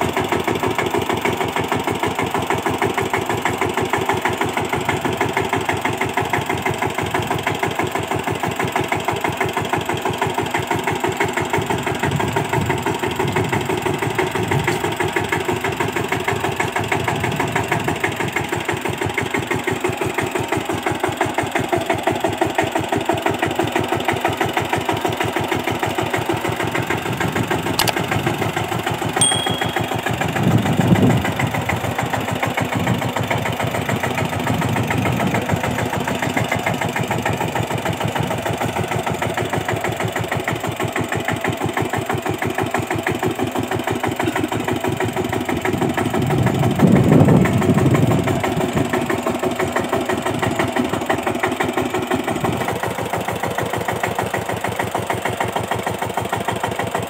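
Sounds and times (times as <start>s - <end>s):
diesel tiller engine chugging: 0.0s - 57.0s.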